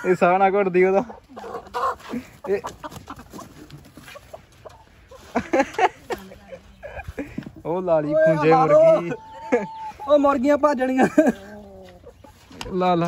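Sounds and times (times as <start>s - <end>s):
hen clucking and squawking: 0.0s - 13.0s.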